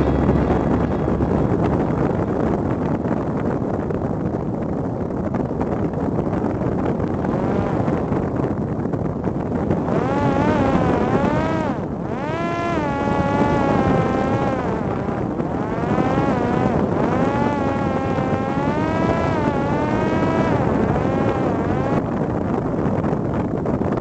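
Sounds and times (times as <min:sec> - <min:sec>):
drone motor buzzing whine: 0:00.0 - 0:24.0
wind rush: 0:00.0 - 0:24.0.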